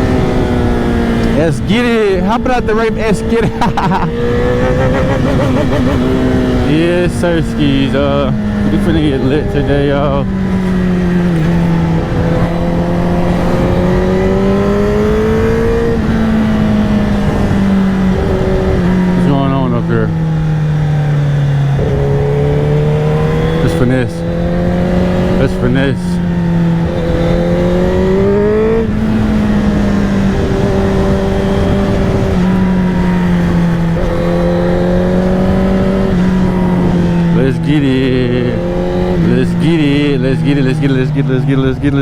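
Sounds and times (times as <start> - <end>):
motorcycle engine pulling: 0.0 - 42.0.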